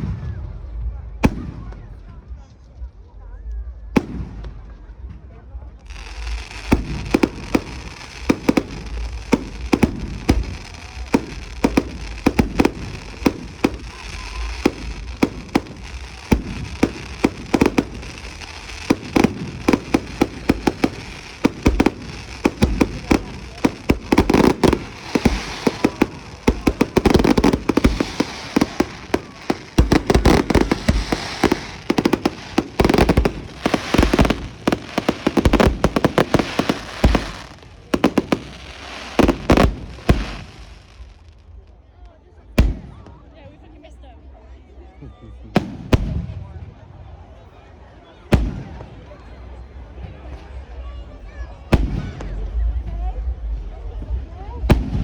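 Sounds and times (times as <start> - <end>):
fireworks bangs and crackles: 0.0 - 44.6, 45.3 - 55.0.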